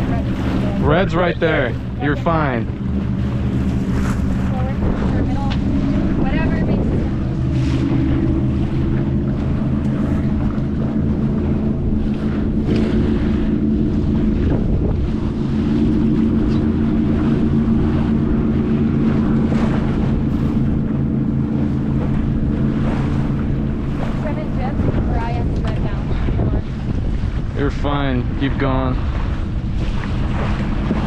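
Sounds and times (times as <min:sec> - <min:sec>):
steady engine hum: 0:00.0 - 0:31.0
wind gusting on microphone: 0:00.0 - 0:31.0.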